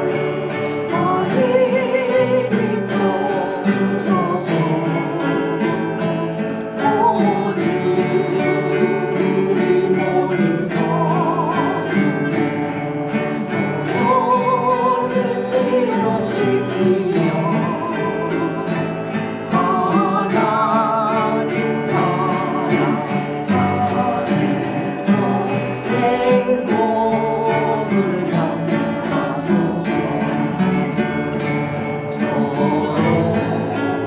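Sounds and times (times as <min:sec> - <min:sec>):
acoustic guitar: 0:00.0 - 0:34.0
harp: 0:00.0 - 0:34.0.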